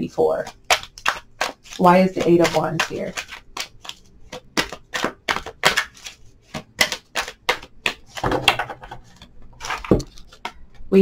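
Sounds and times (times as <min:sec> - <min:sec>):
cards being shuffled: 0:00.4 - 0:10.6.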